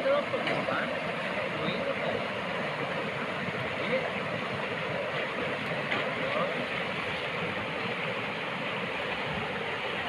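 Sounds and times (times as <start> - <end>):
water rushing over rocks: 0.0 - 10.0.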